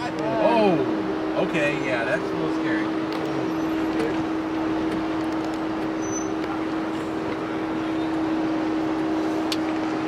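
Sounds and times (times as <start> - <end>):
vehicle engine and drivetrain hum: 0.0 - 10.0.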